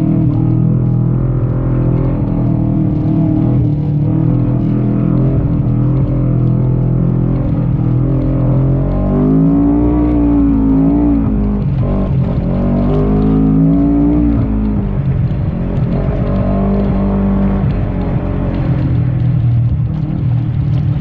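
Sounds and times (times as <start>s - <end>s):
engine revving: 0.0s - 21.0s.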